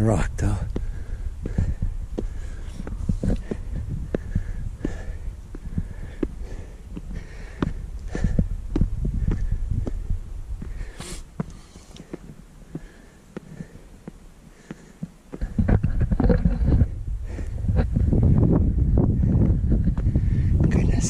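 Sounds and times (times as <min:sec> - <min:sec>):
low rumbling: 0:00.0 - 0:11.8, 0:15.4 - 0:21.0
footsteps on rock: 0:00.0 - 0:20.8.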